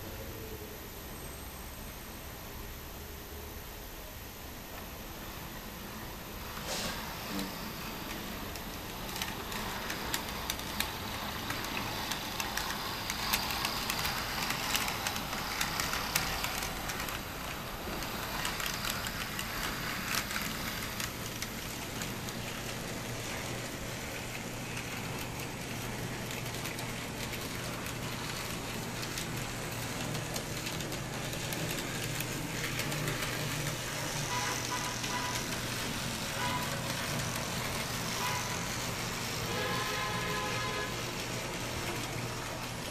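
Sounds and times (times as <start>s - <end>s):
model tram wheels rattling: 6.2s - 42.9s.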